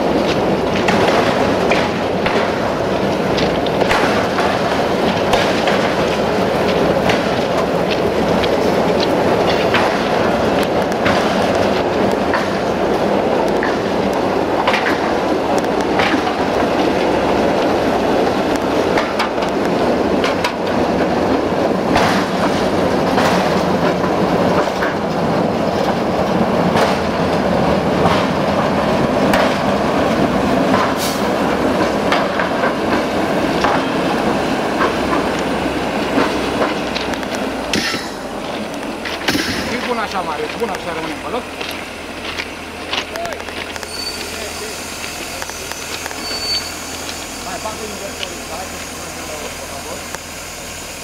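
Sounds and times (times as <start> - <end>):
train wagons rolling rumble: 0.0 - 51.0
metallic clacks from wheels: 0.1 - 49.5.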